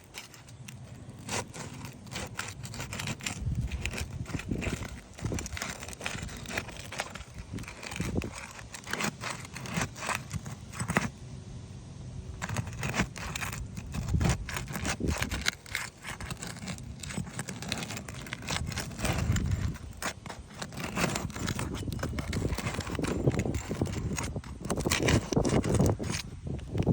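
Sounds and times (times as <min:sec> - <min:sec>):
roof shingles scraping and crackling: 0:00.0 - 0:11.1, 0:12.3 - 0:26.9.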